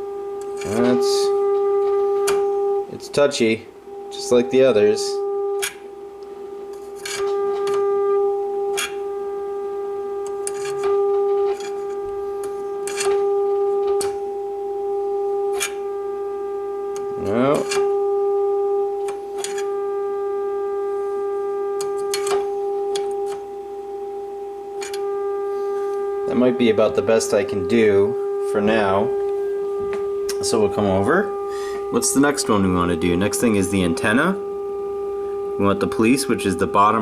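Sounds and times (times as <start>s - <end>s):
radio test tone: 0.0s - 6.2s, 6.8s - 37.0s.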